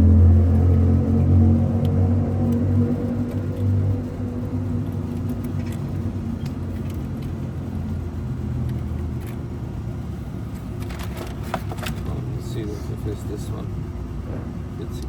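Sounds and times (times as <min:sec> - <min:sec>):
air conditioner compressor hum: 0:00.0 - 0:15.0.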